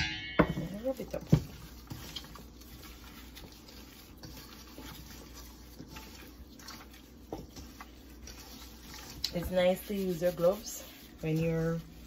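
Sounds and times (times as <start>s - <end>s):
wet squishing and rubbing: 0.7s - 12.0s.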